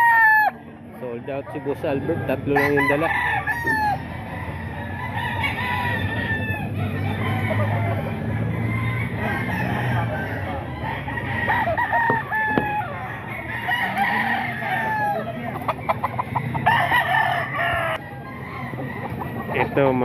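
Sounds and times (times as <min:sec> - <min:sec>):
chickens clucking: 0:00.0 - 0:20.0
roosters crowing: 0:00.0 - 0:20.0.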